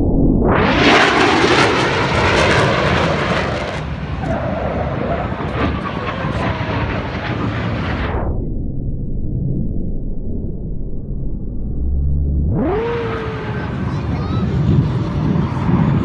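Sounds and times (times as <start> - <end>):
airplane engine roar: 0.0 - 16.0.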